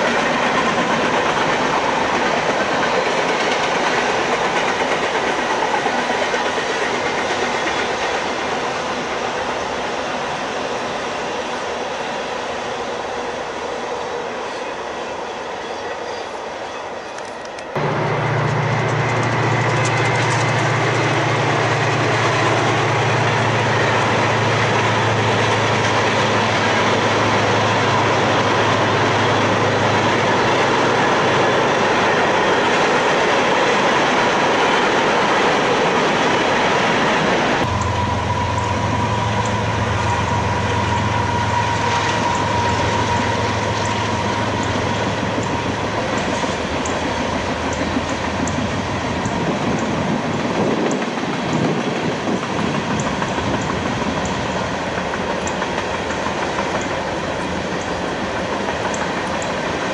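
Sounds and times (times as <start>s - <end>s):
train wheels clattering on rails: 0.0s - 10.0s, 17.1s - 59.9s
diesel locomotive engine drone: 0.0s - 59.9s.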